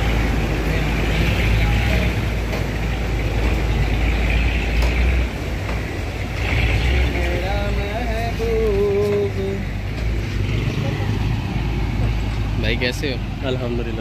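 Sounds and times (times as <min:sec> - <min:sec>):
truck diesel engine under load: 0:00.0 - 0:14.0
truck ploughing through mud and water: 0:00.0 - 0:14.0.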